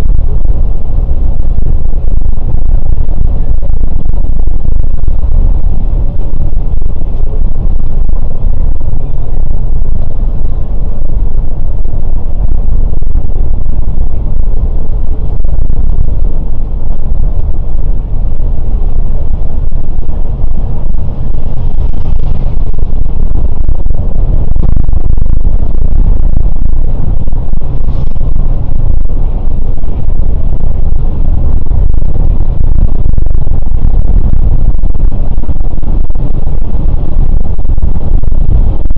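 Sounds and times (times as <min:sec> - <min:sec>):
coach diesel engine rumble: 0:00.0 - 0:38.9.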